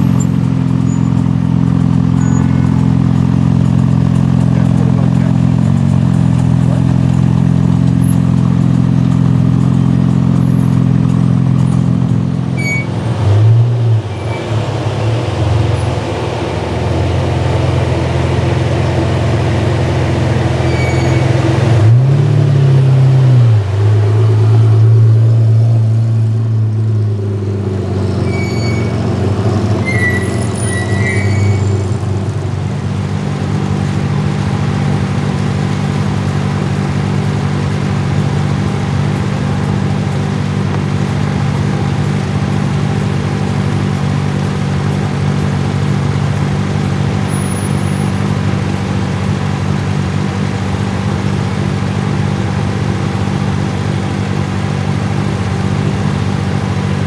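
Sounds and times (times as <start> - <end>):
car engine idling: 0.0 - 57.0
car engine revving: 0.0 - 57.0.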